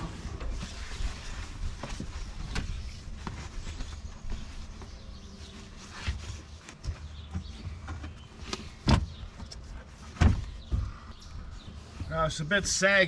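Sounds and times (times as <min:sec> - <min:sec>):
sunshade rustling and knocking: 0:00.0 - 0:12.6.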